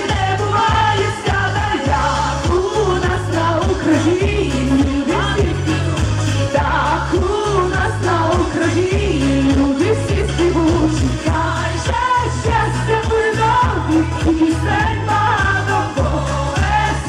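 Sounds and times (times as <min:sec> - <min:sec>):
backing music with pulsing bass: 0:00.0 - 0:17.0
woman singing pop song: 0:00.0 - 0:17.0.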